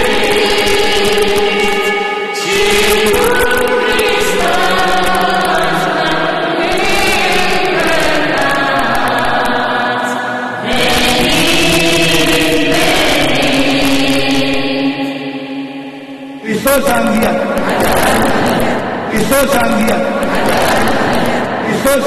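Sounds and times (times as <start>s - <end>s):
choir chanting long notes: 0.0s - 22.0s.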